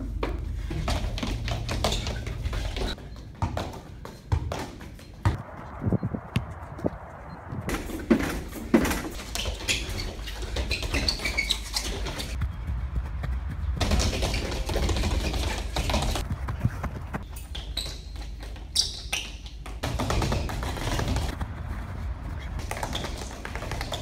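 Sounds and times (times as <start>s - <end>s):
footfalls on artificial turf: 0.0s - 24.0s.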